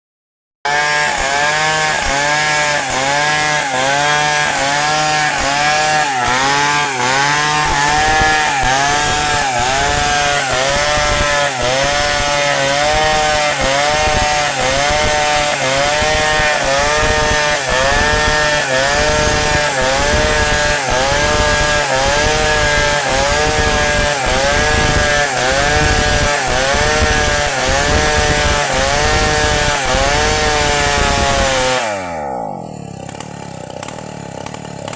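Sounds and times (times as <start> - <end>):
chainsaw cutting wood: 0.7 - 34.9.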